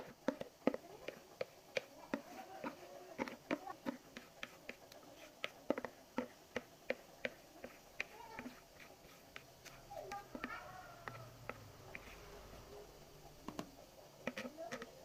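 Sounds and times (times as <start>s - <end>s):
spatula tapping and scraping bowl: 0.0s - 12.7s, 13.3s - 15.0s.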